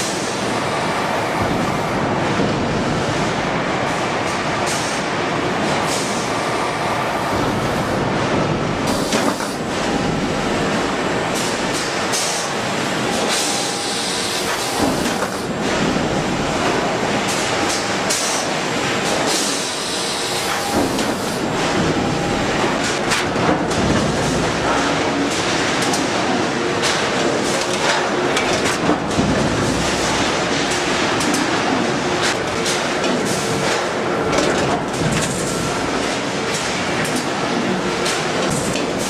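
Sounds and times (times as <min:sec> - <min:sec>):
factory machinery din: 0:00.0 - 0:39.0.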